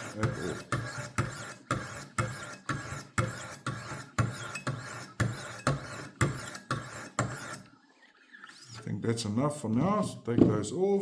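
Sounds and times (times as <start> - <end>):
stones rasping on knife blade: 0.0 - 8.8.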